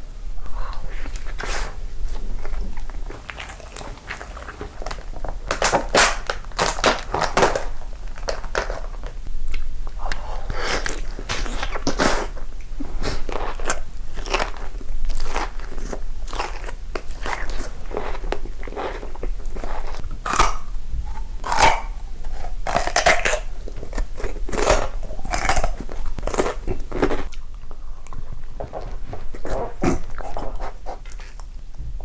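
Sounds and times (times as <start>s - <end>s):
person chewing crunchy food: 0.4s - 31.6s.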